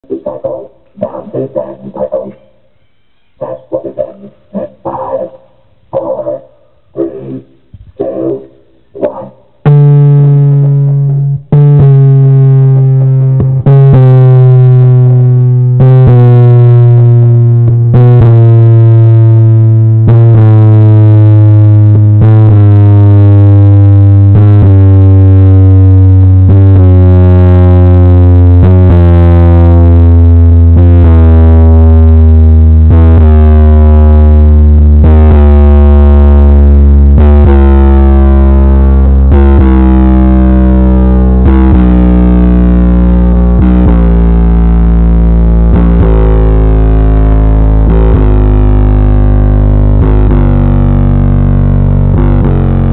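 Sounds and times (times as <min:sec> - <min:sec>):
distorted bass test tones: 0:00.0 - 0:52.9.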